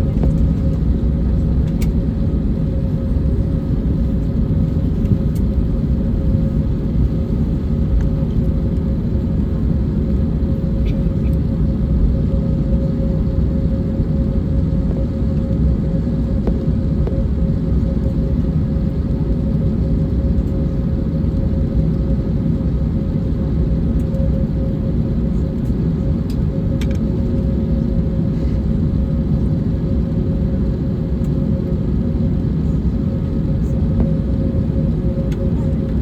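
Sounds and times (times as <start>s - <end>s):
airplane cabin rumble: 0.0s - 36.0s
constant hum: 0.0s - 36.0s.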